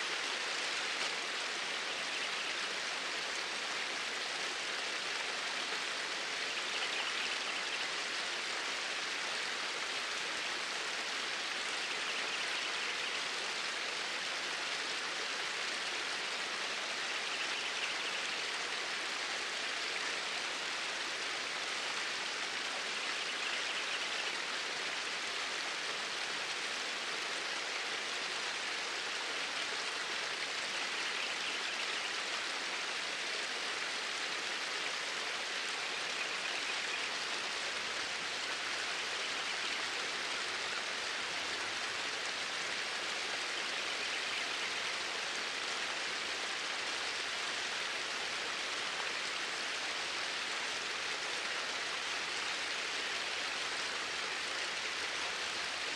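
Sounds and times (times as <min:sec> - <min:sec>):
water flowing: 0:00.0 - 0:55.9.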